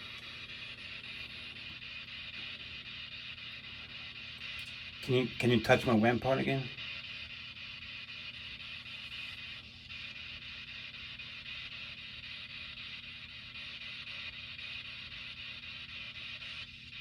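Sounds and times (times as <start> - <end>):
constant hiss: 0.0 - 17.0
steady low hum: 0.0 - 17.0.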